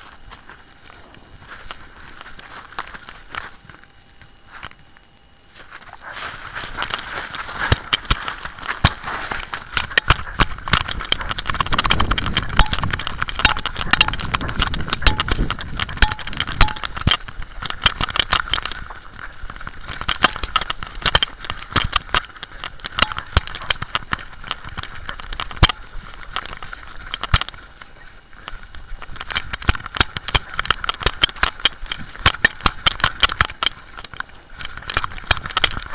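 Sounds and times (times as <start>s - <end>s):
rubbing and rustling in grass: 0.0s - 4.9s, 5.5s - 35.9s.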